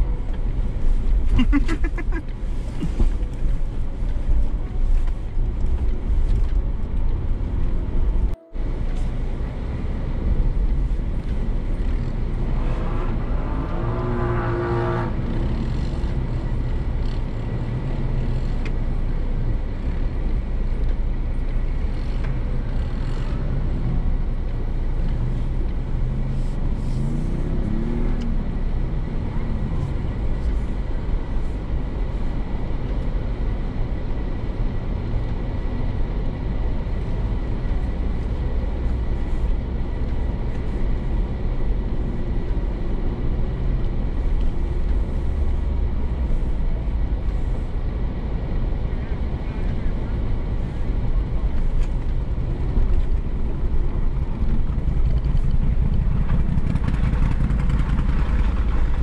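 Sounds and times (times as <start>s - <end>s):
low engine and drivetrain rumble: 0.0s - 59.0s.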